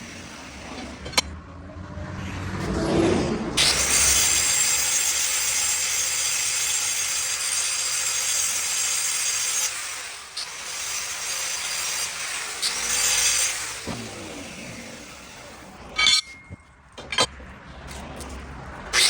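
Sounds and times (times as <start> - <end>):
power tool grinding: 0.0 - 1.4, 3.5 - 19.0.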